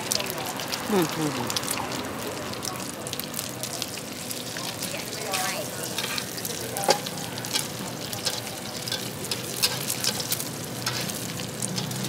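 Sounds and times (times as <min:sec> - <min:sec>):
egg sizzling in hot oil: 0:00.0 - 0:12.0.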